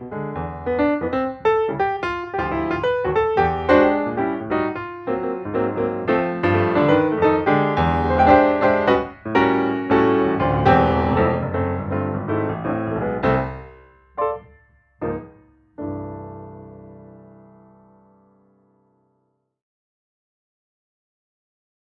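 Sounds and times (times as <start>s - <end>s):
piano music: 0.0s - 19.1s.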